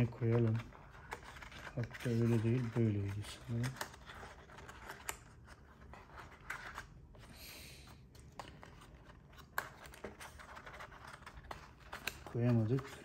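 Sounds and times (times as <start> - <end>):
paper and cardboard rustling: 0.0 - 7.4, 8.0 - 13.0.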